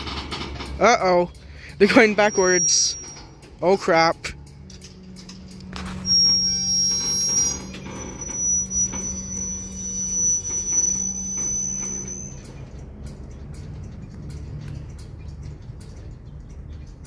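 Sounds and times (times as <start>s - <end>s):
train wheels screeching: 0.0s - 14.0s.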